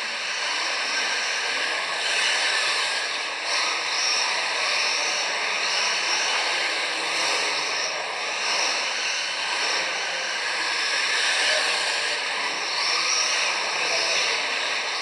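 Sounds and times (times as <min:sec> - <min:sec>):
high whine of electric rc cars: 0:00.0 - 0:15.0.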